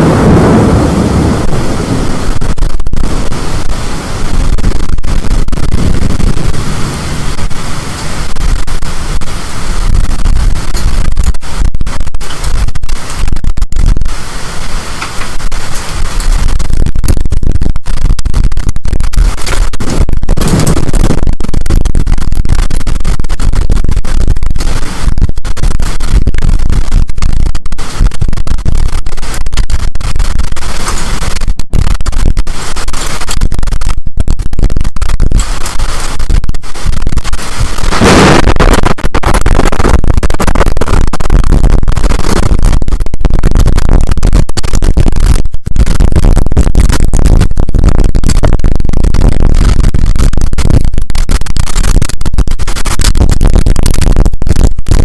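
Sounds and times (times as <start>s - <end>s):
storm wind buffeting microphone: 0.0s - 55.0s.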